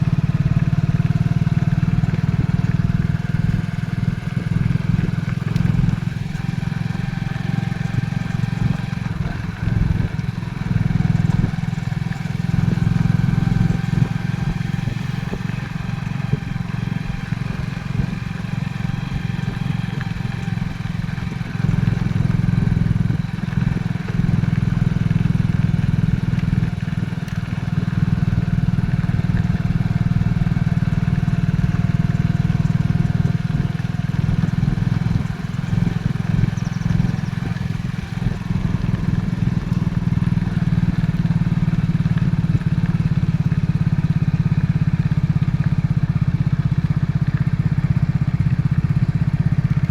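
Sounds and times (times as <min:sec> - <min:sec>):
motorcycle engine drone: 0:00.0 - 0:49.9.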